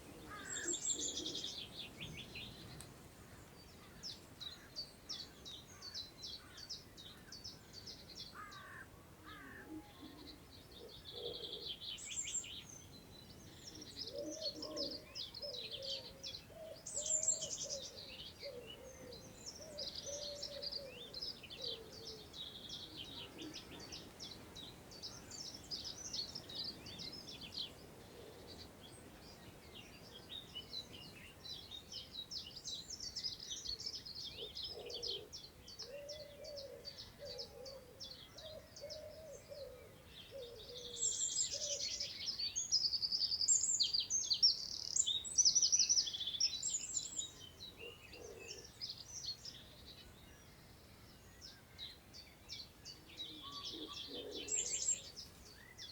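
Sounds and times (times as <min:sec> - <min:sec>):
songbirds singing trills: 0:00.0 - 0:55.9.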